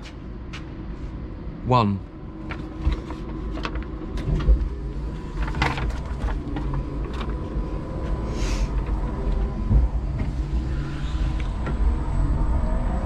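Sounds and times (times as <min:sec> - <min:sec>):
electric forklift hum: 0:02.1 - 0:13.0.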